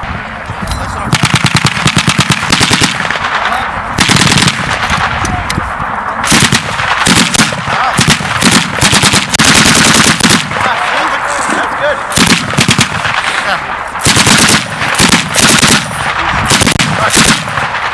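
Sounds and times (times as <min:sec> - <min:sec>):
machine gun automatic fire: 0:01.1 - 0:05.2, 0:06.2 - 0:11.2, 0:12.1 - 0:17.9.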